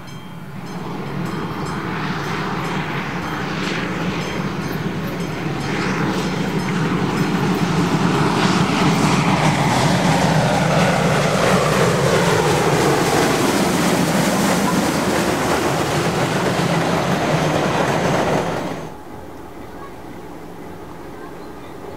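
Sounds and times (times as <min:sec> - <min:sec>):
steam locomotive passing: 0:00.0 - 0:21.9
train coaches rolling on rails: 0:00.0 - 0:21.9.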